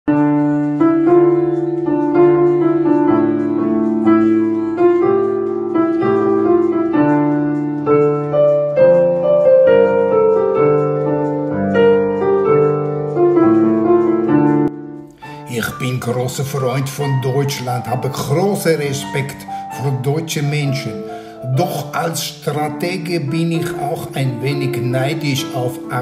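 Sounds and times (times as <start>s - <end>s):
slow grand piano piece: 0.1s - 26.0s.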